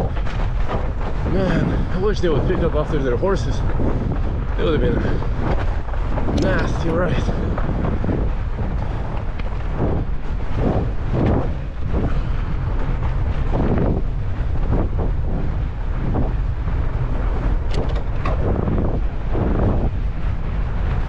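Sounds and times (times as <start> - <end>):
bike knocks and rattles: 0.0 - 21.0
bike low rumble: 0.0 - 21.0
wind on microphone: 0.0 - 21.0.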